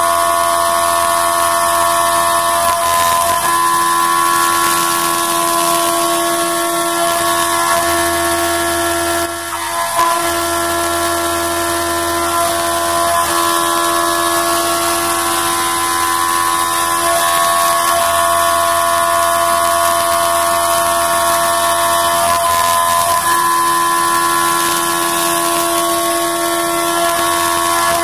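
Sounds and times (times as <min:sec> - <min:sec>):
milling machine whine: 0:00.0 - 0:28.0.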